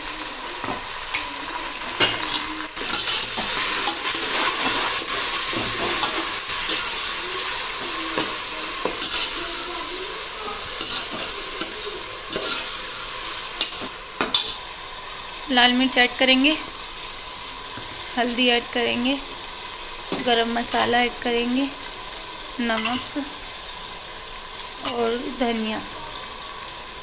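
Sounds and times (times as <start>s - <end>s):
food sizzling in hot oil: 0.0s - 27.0s.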